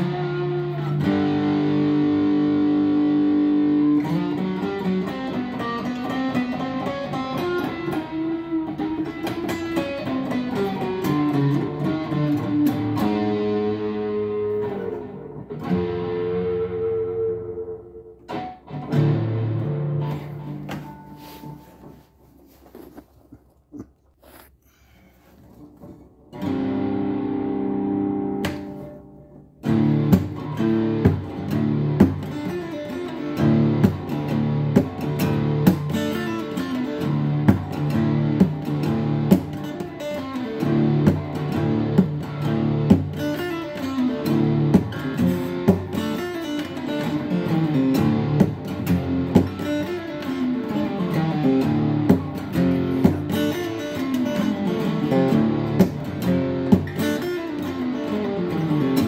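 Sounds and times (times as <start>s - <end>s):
acoustic guitar playing: 0.0s - 23.0s, 25.2s - 59.0s.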